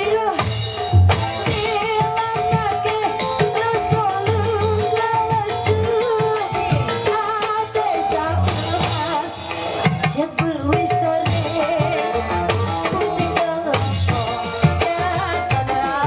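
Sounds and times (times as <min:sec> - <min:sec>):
steady drum beat: 0:00.0 - 0:16.0
women singing into microphones: 0:00.0 - 0:16.0.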